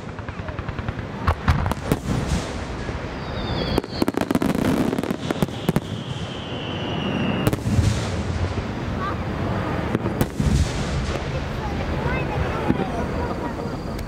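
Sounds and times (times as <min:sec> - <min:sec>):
fireworks bangs and crackling: 0:00.0 - 0:14.0
whistling fireworks: 0:00.0 - 0:14.0.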